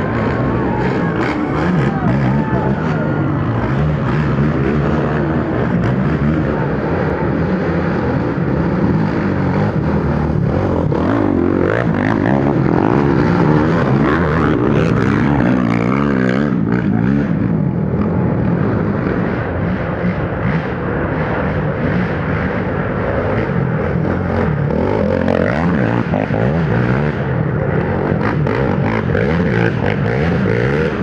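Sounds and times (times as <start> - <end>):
quad engines revving: 0.0 - 31.0.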